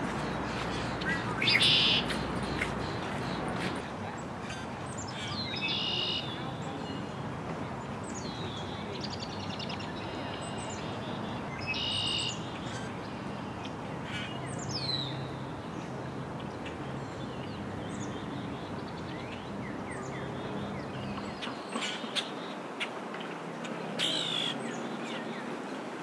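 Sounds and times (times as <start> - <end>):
songbirds singing: 0.0 - 25.8.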